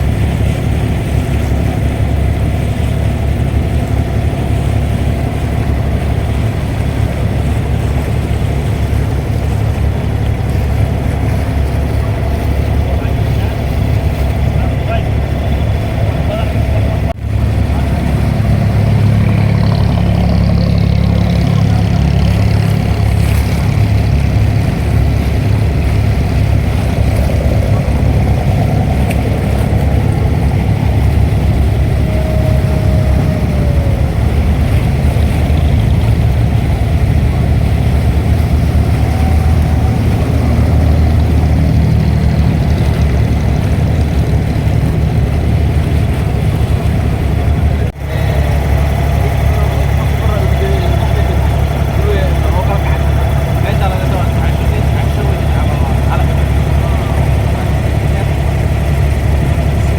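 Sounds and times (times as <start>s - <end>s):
boat diesel engine droning: 0.0s - 59.9s.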